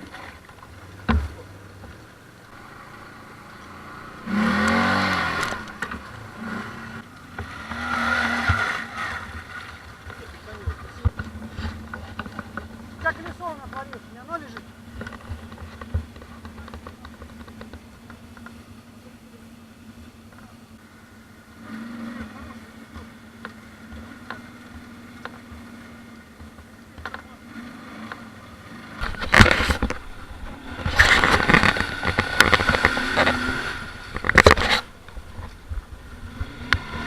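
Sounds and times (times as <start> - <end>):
atv engine running and revving: 0.0 - 37.0.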